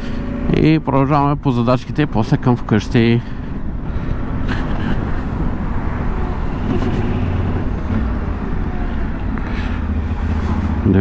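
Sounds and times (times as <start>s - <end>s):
city traffic: 0.0s - 11.0s
wind and road noise: 0.0s - 11.0s.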